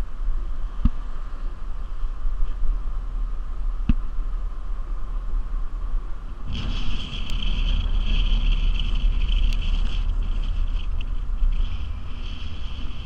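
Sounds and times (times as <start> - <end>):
high whistling hiss: 0.0 - 13.0
wind buffeting microphone: 0.0 - 13.0.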